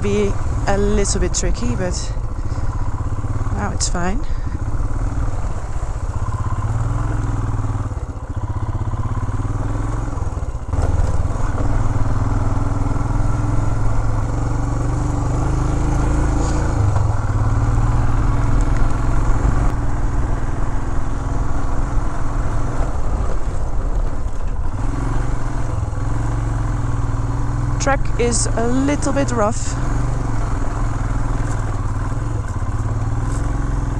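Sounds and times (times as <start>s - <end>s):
motorcycle engine on dirt track: 0.0s - 33.9s.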